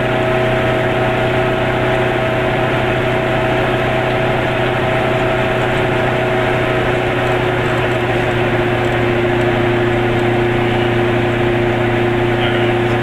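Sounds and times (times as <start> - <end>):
car engine running: 0.0 - 13.0
held whine: 0.0 - 13.0.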